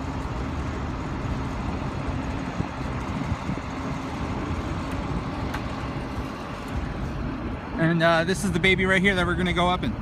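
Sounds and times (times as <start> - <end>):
machinery drone: 0.0 - 10.0.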